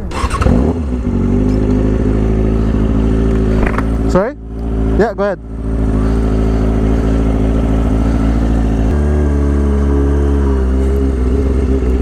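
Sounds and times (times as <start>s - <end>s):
motorcycle engine idling: 0.1s - 12.0s.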